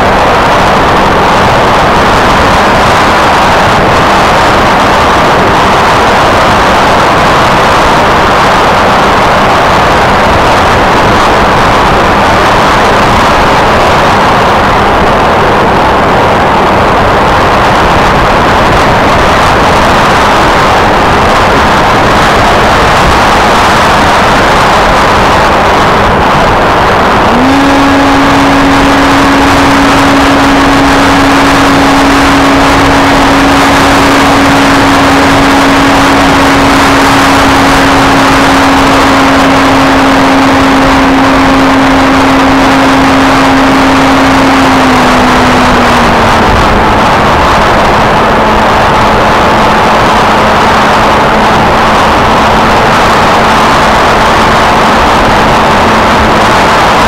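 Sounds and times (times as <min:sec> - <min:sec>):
electric motor and propeller drone: 0:00.0 - 0:57.0
wind rushing over microphone: 0:00.0 - 0:57.0.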